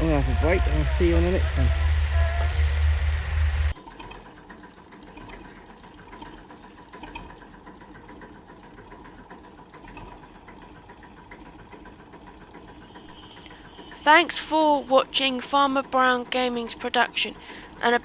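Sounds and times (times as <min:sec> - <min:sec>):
small machine ticking and humming: 0:00.0 - 0:18.0.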